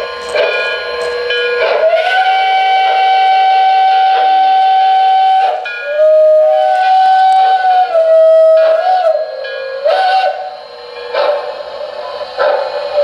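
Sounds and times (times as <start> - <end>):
steam chime whistle blasts: 0.0 - 13.0.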